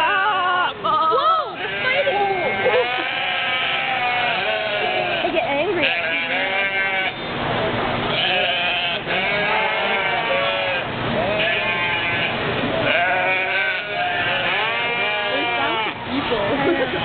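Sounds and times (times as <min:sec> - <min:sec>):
sheep bleating: 0:01.4 - 0:07.2, 0:08.1 - 0:16.0.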